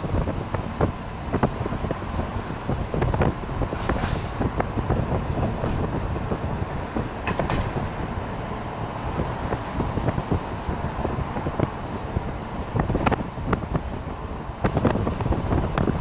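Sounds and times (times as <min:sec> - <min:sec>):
vehicle ride rumble: 0:00.0 - 0:16.0.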